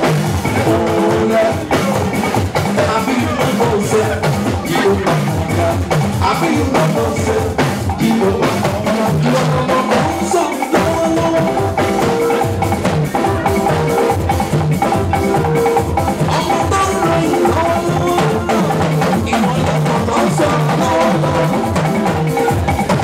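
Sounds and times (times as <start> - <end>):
dance music with busy drumming: 0.0 - 23.0.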